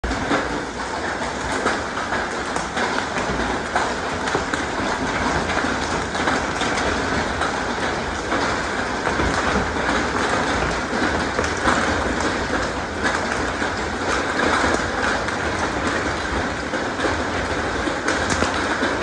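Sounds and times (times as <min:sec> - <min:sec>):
hail pelting pavement: 0:00.0 - 0:19.0
splashing water: 0:00.0 - 0:19.0.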